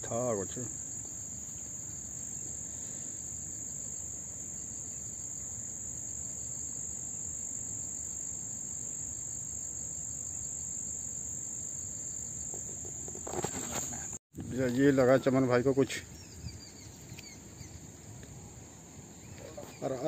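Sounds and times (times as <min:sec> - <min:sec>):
insect chorus shrilling: 0:00.0 - 0:14.2, 0:14.8 - 0:20.0.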